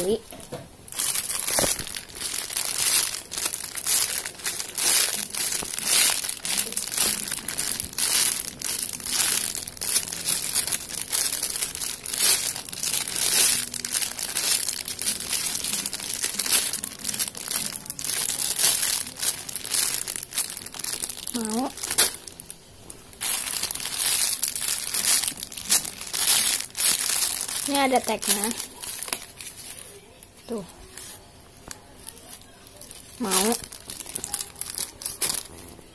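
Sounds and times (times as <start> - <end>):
plastic bag crinkling: 0.0 - 35.9.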